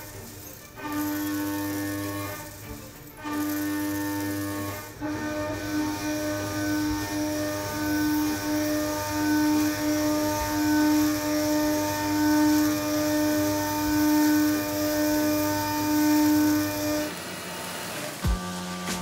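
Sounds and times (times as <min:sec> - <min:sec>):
milling machine cutting metal: 0:00.0 - 0:19.0.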